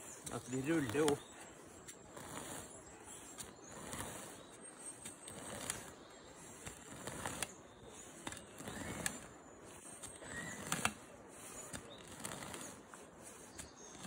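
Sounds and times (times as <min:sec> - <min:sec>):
hoe tearing roots and scraping soil: 0:00.0 - 0:14.0.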